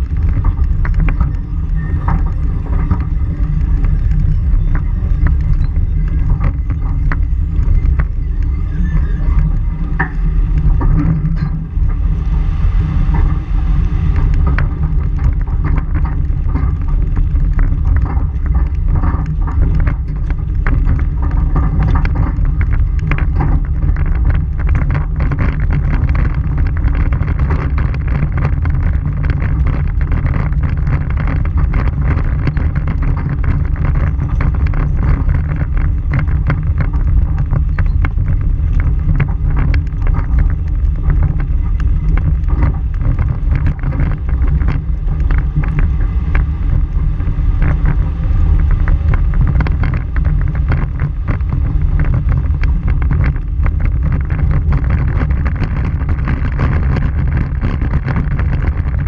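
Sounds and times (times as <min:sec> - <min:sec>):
gravel clicks and rattles: 0:00.0 - 0:59.0
tyres rumbling on dirt road: 0:00.0 - 0:59.0
wind buffeting microphone: 0:00.0 - 0:59.0.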